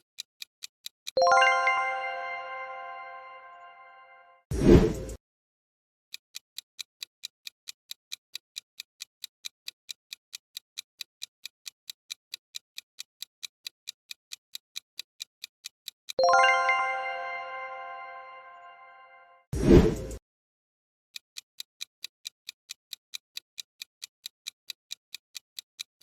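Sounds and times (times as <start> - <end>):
clock-like ticking timer: 0.0 - 3.8, 6.1 - 18.8, 21.2 - 26.0.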